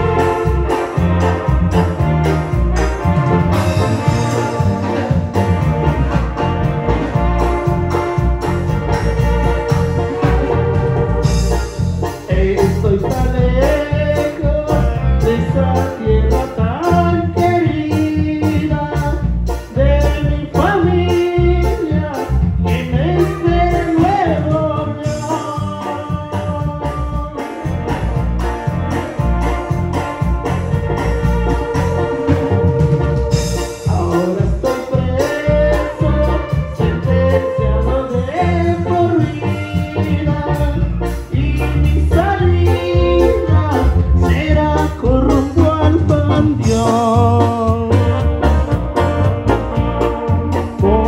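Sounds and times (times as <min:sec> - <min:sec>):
electronic keyboards: 0:00.0 - 0:51.0
heavy bass: 0:00.0 - 0:51.0
sliding lead melody: 0:00.0 - 0:51.0
steady drum beat: 0:00.0 - 0:51.0.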